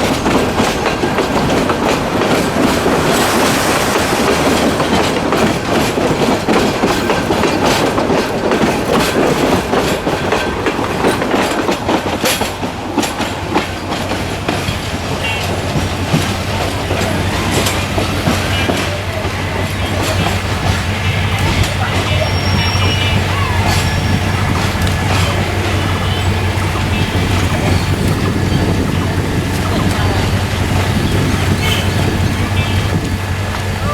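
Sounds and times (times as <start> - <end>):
train wheels clacking over rails: 0.0 - 33.9.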